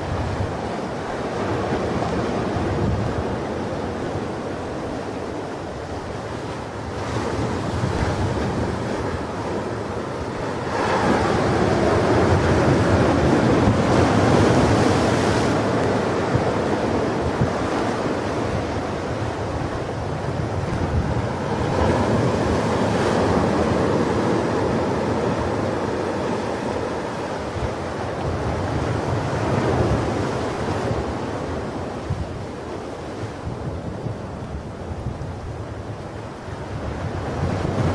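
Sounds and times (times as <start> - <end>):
waves breaking on shore: 0.0 - 37.9.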